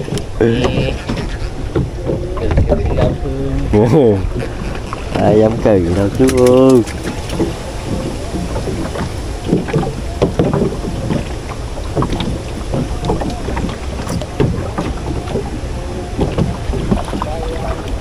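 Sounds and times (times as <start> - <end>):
river water rushing around boat: 0.0 - 18.0.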